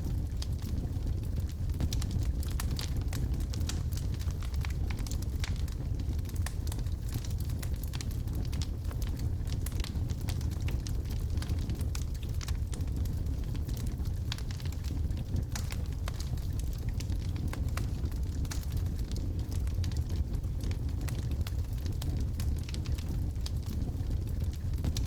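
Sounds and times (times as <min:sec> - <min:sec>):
fire flames rumbling: 0:00.0 - 0:25.0
wood fire crackling and popping: 0:00.0 - 0:25.0.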